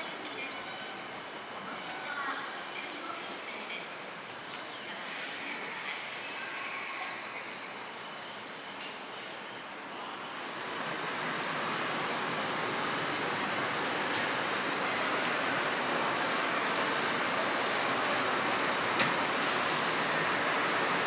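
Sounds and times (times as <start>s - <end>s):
train running: 0.0s - 21.0s.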